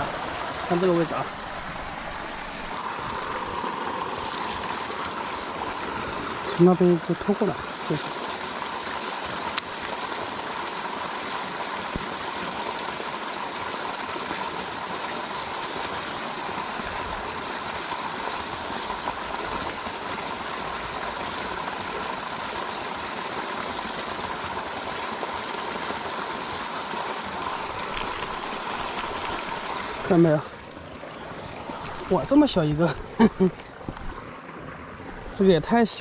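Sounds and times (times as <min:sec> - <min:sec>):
mountain stream flowing: 0:00.0 - 0:36.0.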